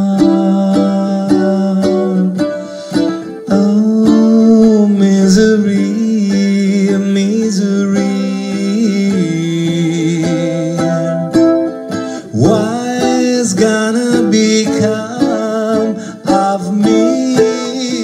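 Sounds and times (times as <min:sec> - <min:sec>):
man singing long notes: 0:00.0 - 0:18.0
ukulele strumming: 0:00.0 - 0:18.0.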